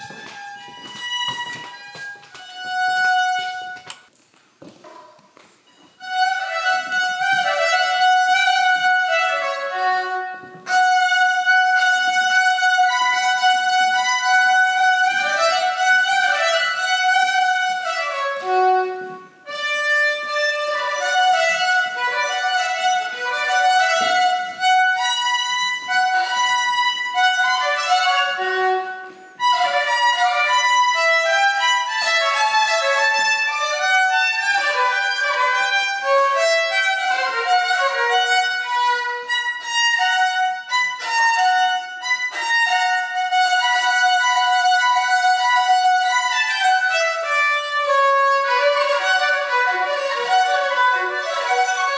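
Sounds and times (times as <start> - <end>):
solo violin slow melody: 0.0 - 4.1, 5.7 - 51.9.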